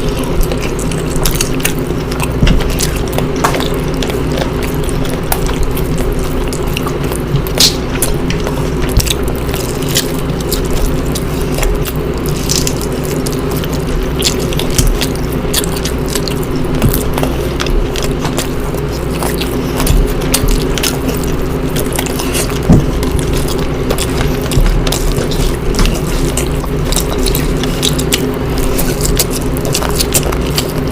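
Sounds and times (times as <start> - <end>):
low background drone: 0.0 - 30.9
mouth clicks and smacks: 0.0 - 30.9
people chewing food: 0.0 - 30.9.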